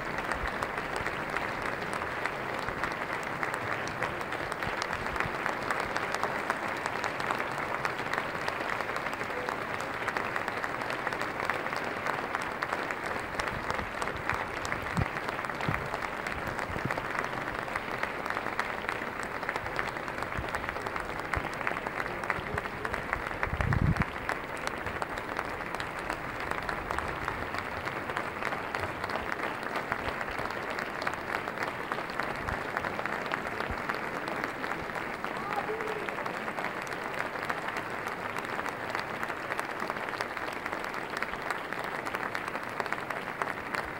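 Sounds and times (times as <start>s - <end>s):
audience applauding: 0.0s - 43.9s.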